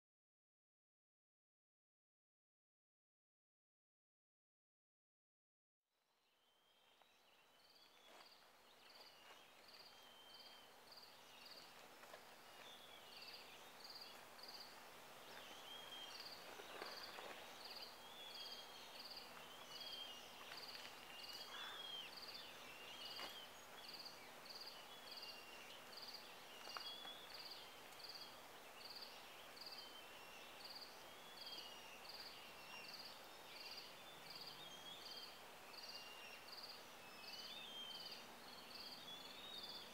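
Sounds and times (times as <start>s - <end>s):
birds chirping: 6.3s - 39.9s.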